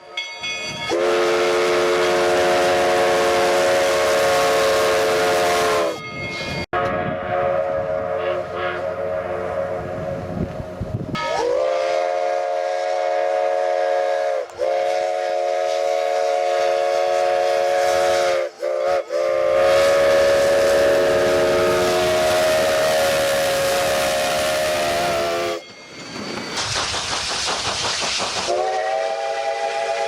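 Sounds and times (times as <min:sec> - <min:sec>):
steam locomotive chime whistle: 0:00.0 - 0:26.8, 0:28.4 - 0:30.0
running train rumble: 0:00.0 - 0:30.0.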